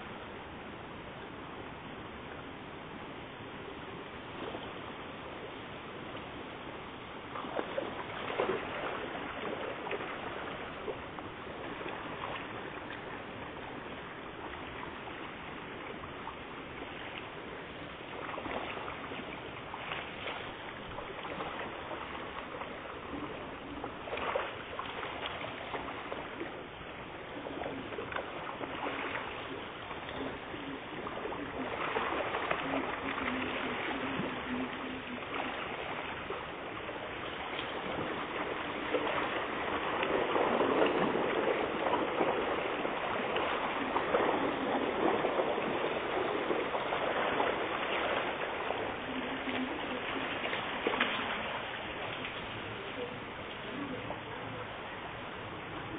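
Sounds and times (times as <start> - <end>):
fish splashing in a pond: 7.3 - 54.3.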